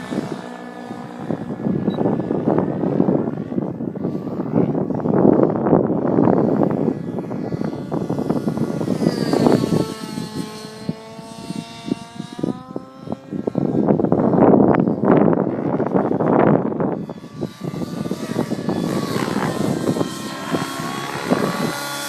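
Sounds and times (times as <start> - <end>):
model helicopter engine whine: 0.0 - 22.0
wind on microphone: 0.0 - 22.0.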